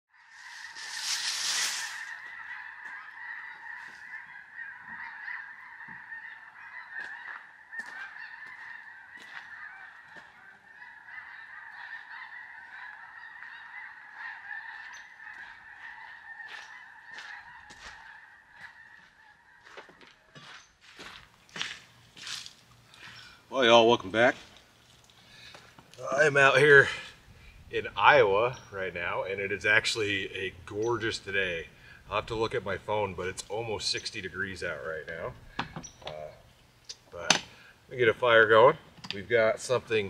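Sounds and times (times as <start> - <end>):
geese honking: 0.1 - 20.6, 23.0 - 40.0.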